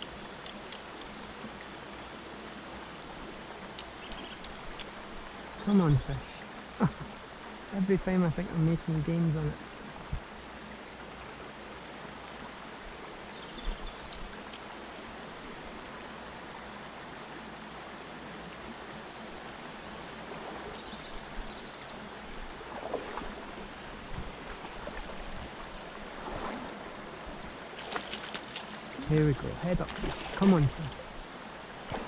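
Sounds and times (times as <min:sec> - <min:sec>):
river water rippling: 0:00.0 - 0:32.0.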